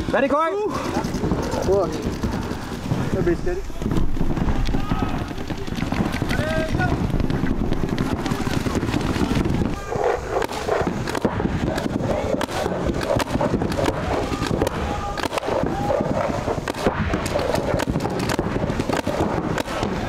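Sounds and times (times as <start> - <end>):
paintball guns firing rapidly: 0.0 - 20.0.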